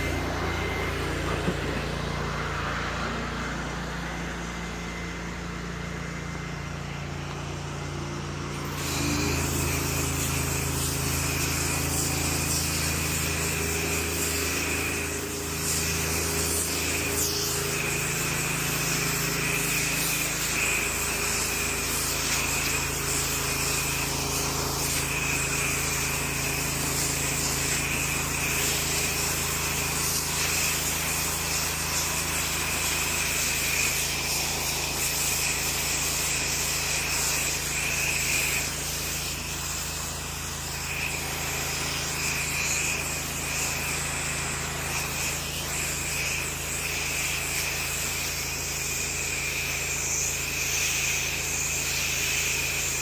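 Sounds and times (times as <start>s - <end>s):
pump humming: 0.0s - 53.0s
water spraying hiss: 8.5s - 53.0s.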